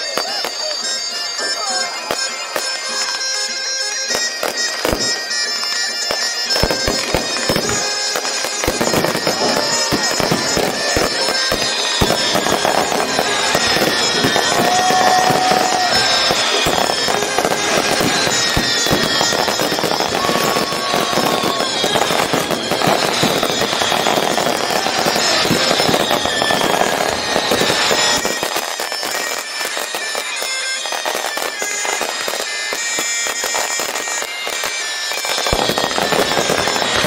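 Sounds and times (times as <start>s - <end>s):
fireworks bursting and crackling: 0.0s - 37.0s
music with held tones: 0.0s - 37.0s
whistling firework shells: 0.0s - 37.0s.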